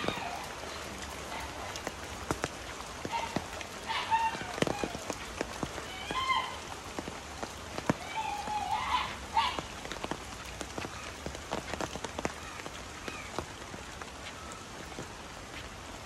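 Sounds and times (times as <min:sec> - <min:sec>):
rain hiss: 0:00.0 - 0:16.0
raindrops tapping on an umbrella: 0:00.0 - 0:16.0.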